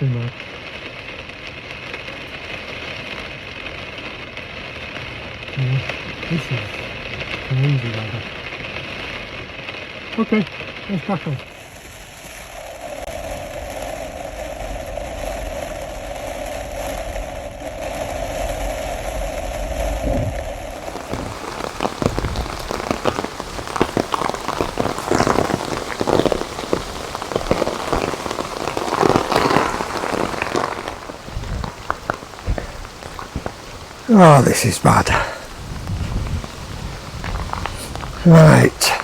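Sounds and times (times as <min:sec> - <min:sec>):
heavy raindrops pattering: 0:00.0 - 0:39.0
torrential rain beating down: 0:00.0 - 0:39.0.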